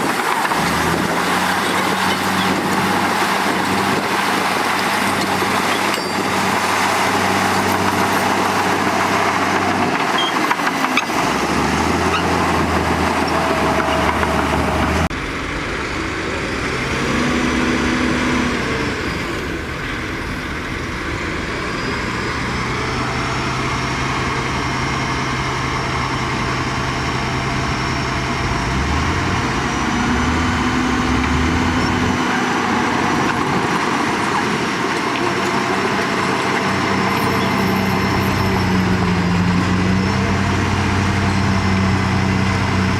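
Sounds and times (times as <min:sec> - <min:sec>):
heavy machinery diesel engines: 0:00.0 - 0:42.9.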